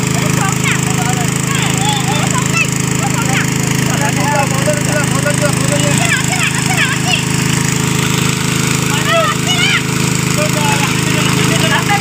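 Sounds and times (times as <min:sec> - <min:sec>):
water pump engine droning: 0:00.0 - 0:12.0.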